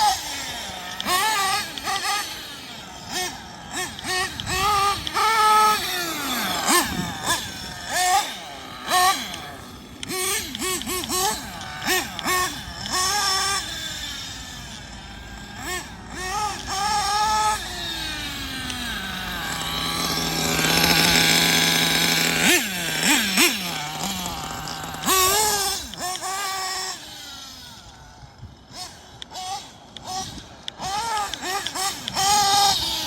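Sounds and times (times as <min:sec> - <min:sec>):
small nitro engine revving: 0:00.0 - 0:33.0.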